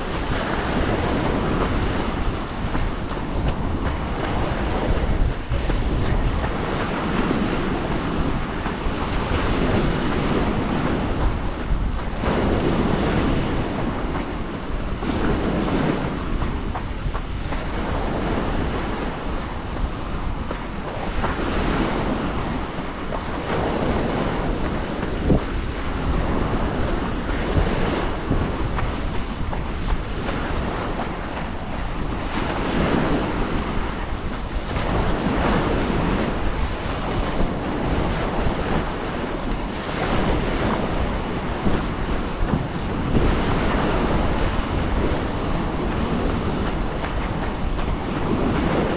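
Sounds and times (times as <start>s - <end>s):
waves on a pebble beach: 0.0s - 48.9s
wind buffeting microphone: 0.0s - 48.9s.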